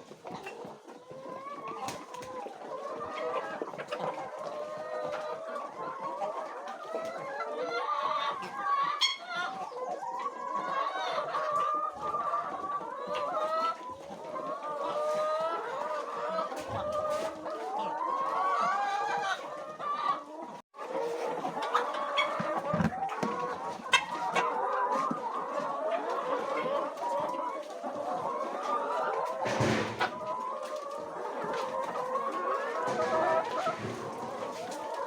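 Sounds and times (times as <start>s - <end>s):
hens clucking: 0.0s - 35.0s.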